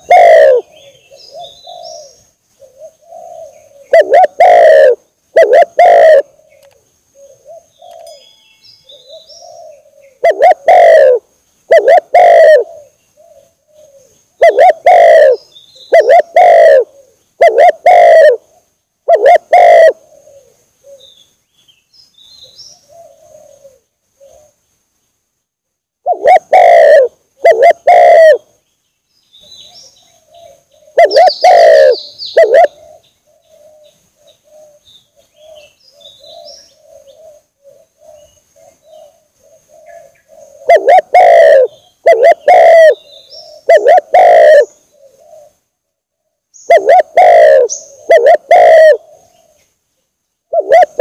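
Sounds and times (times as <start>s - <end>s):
dove cooing: 0.0s - 21.2s, 22.4s - 24.6s, 26.0s - 28.5s, 29.5s - 49.7s, 50.5s - 51.0s
small birds chirping: 0.0s - 26.8s, 27.4s - 45.7s, 46.3s - 51.0s.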